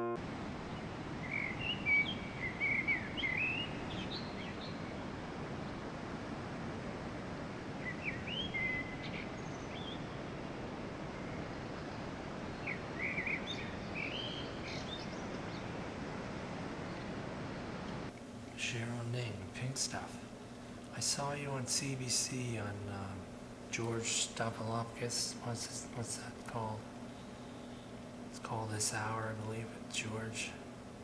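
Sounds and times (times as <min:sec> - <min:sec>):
small birds chirping: 0:00.0 - 0:05.4, 0:07.7 - 0:15.8, 0:17.8 - 0:31.0
background hiss: 0:00.0 - 0:31.0.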